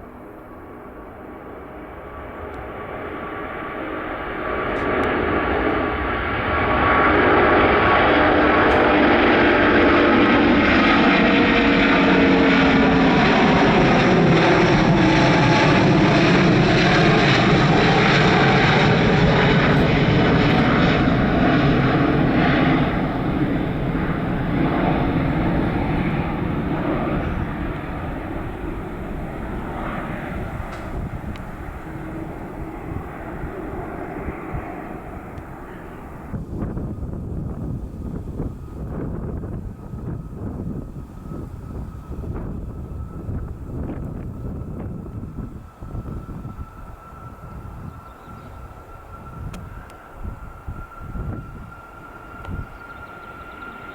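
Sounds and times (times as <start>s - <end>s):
airliner engine noise passing: 0.0s - 53.9s.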